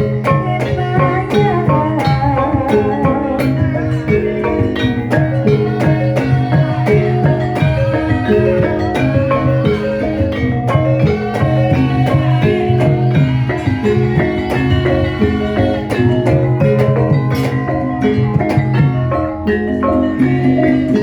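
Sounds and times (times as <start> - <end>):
gamelan ensemble playing: 0.0 - 21.0.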